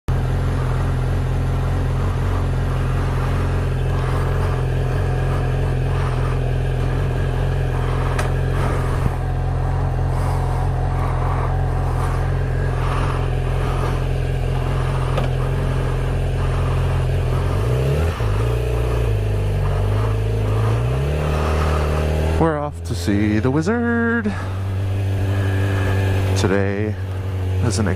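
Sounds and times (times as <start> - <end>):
motorcycle engine running: 0.1 - 27.9.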